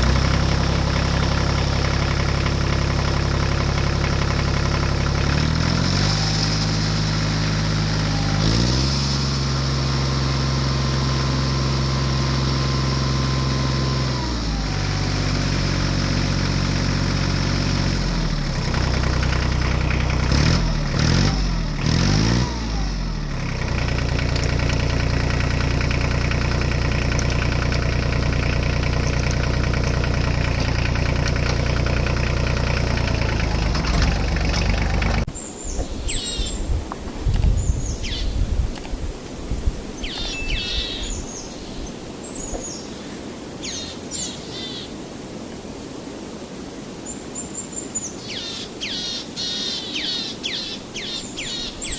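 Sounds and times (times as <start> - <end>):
tractor engine running: 0.0 - 46.7, 47.4 - 51.9.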